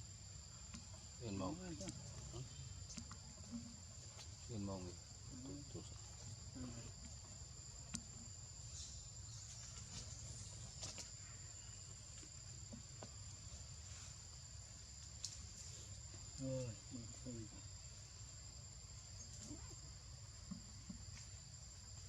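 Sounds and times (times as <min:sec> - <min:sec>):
insects droning: 0:00.0 - 0:22.0
wavering insect call: 0:00.0 - 0:22.0.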